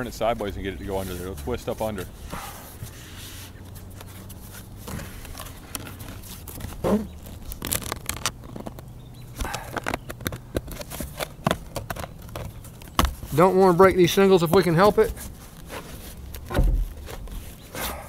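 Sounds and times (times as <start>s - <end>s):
scraping rustling and clicking: 0.0s - 18.0s.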